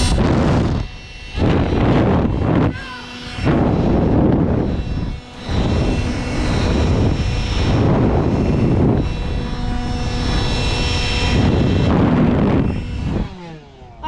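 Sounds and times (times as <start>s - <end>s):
loud rushing air: 0.0s - 13.3s
motor hum and whine: 0.0s - 14.0s.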